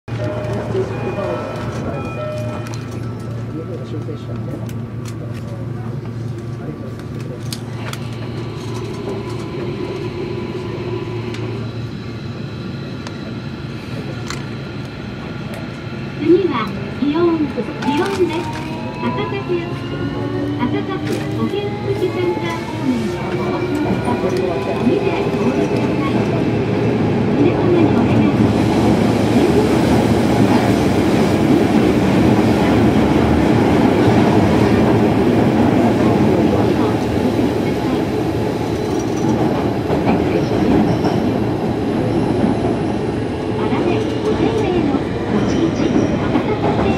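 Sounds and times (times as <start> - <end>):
electric train interior hum: 0.1 - 46.9.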